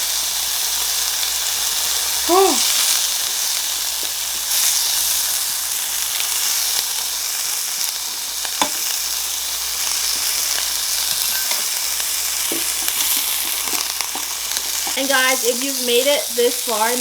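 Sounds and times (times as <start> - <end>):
meat sizzling on grill: 0.0 - 17.0.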